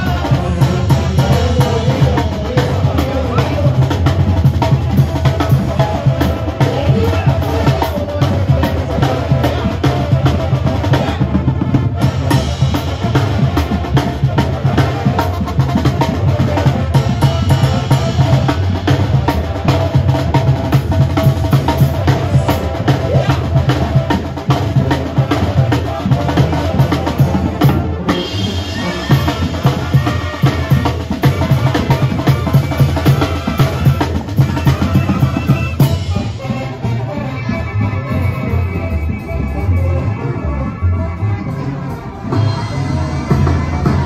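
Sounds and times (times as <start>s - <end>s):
drums and cymbal beat: 0.0s - 40.4s, 41.4s - 44.0s
brass band playing: 0.0s - 44.0s.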